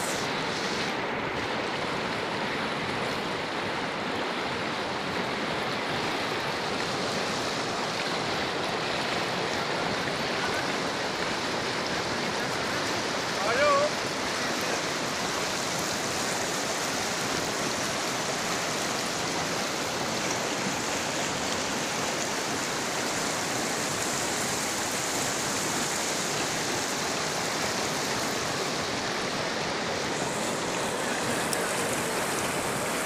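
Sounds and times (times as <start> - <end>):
river rushing over rapids: 0.0 - 33.0.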